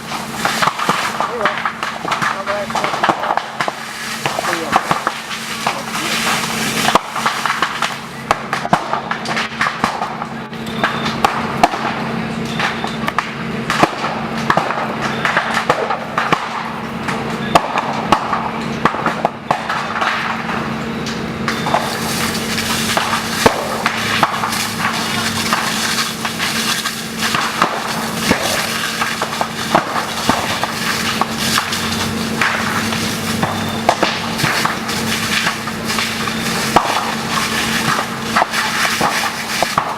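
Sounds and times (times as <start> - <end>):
bamboo crackling and popping: 0.0 - 39.9
low hum: 0.0 - 39.9.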